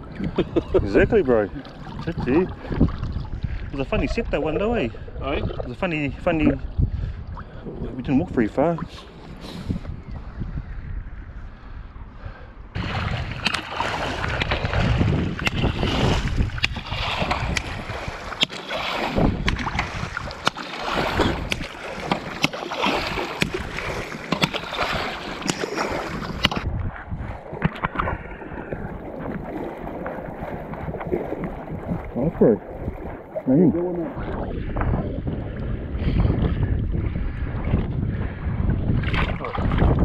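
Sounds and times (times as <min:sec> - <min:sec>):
water splashing and churning: 0:00.0 - 0:10.0, 0:12.1 - 0:40.0
water lapping and sloshing: 0:00.0 - 0:10.5, 0:11.4 - 0:40.0.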